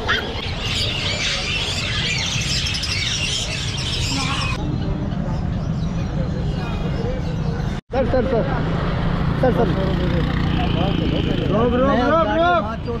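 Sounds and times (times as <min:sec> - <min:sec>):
caged birds chirping: 0:00.0 - 0:08.2, 0:09.5 - 0:13.0.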